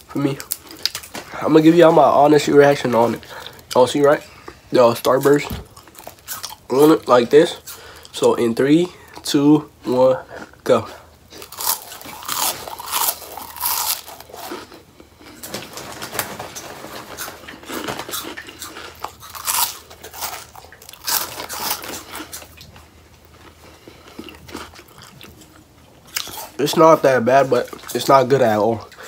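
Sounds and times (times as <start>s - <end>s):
crunching corn snack: 0.1s - 29.0s.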